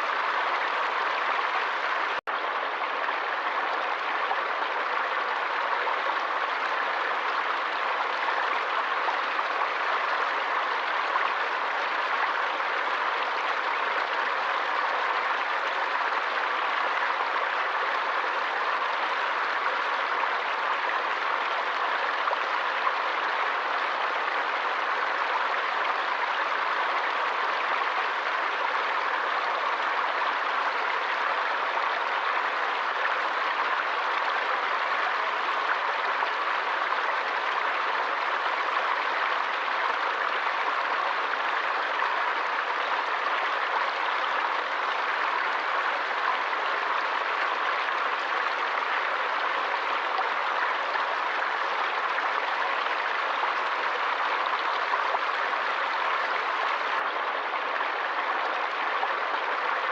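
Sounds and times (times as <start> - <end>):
forest stream flowing: 0.0 - 59.9.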